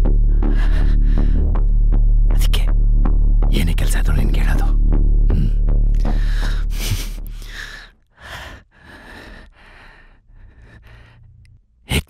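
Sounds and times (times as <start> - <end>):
deep low rumble: 0.0 - 11.9.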